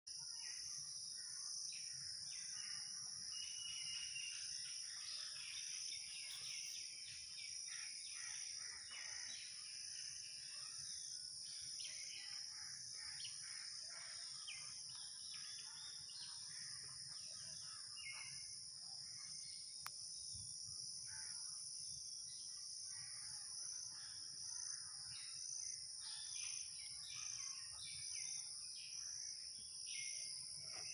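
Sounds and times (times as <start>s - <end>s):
high-pitched insect chorus: 0.1s - 30.9s
bird calls and chirps: 0.2s - 20.5s, 22.4s - 30.9s.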